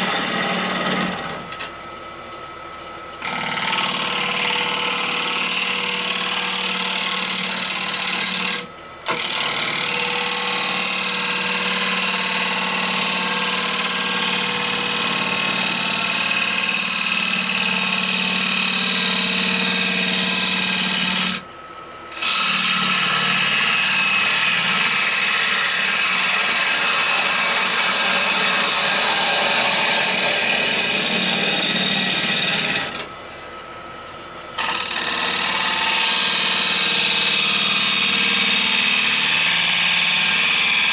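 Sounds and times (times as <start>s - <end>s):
wood lathe humming: 0.0s - 1.6s, 3.2s - 21.5s, 22.1s - 33.1s, 34.6s - 40.9s.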